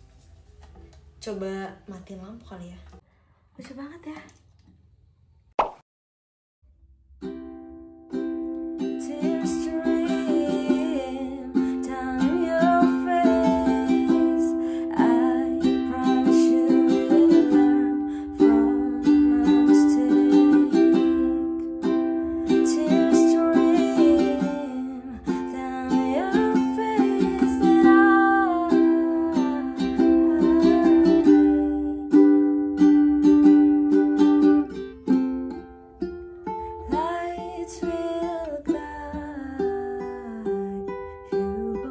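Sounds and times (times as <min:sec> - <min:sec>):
ukulele melody: 0:07.2 - 0:41.9
ukulele strumming chords: 0:07.2 - 0:41.9.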